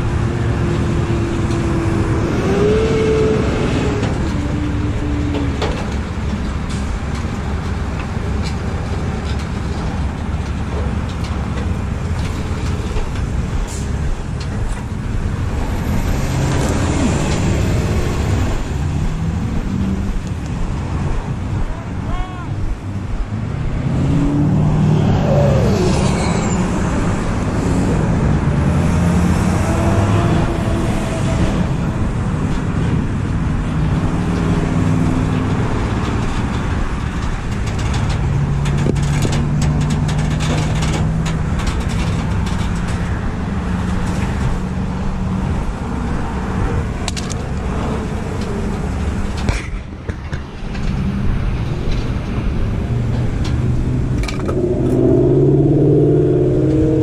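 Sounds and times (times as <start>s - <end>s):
road traffic passing: 0.0s - 57.0s
vehicle engines running: 0.0s - 57.0s.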